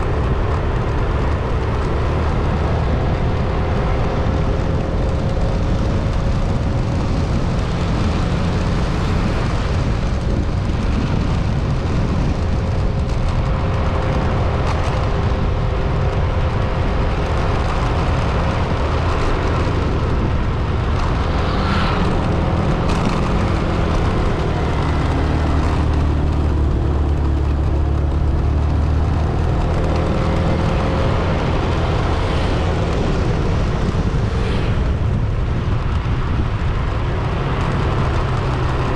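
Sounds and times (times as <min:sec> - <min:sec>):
faint engine hum: 0:00.0 - 0:38.9
low rumble of engine and road noise: 0:00.0 - 0:38.9.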